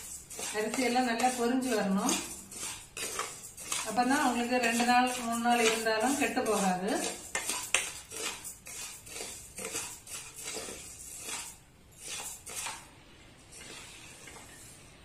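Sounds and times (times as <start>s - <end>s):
spoon scraping rice in metal pan: 0.0s - 15.0s.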